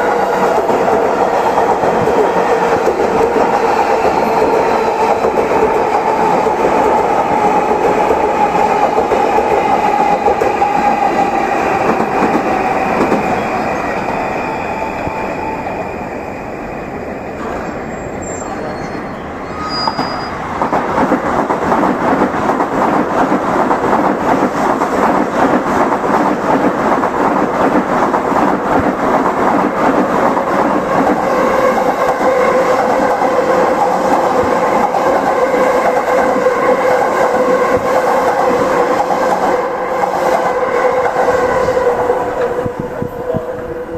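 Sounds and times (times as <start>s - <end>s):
train wheels rattling over rails: 0.0s - 15.4s, 19.9s - 43.9s
steady train whine: 0.0s - 19.6s, 20.2s - 43.9s.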